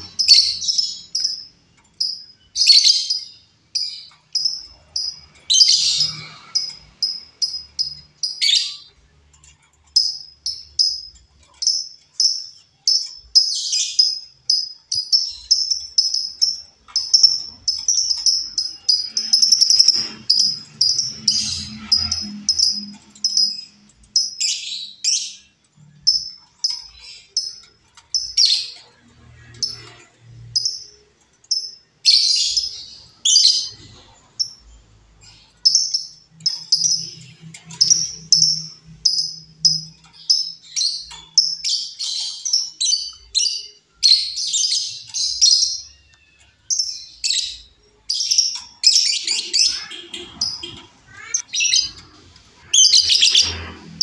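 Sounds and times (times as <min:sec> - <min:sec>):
bird chirping: 0:00.0 - 0:54.0.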